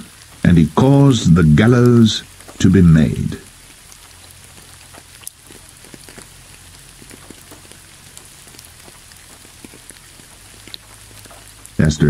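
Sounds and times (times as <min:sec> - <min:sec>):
raindrops ticking sharply: 0:00.0 - 0:12.0
steady rain: 0:00.0 - 0:12.0.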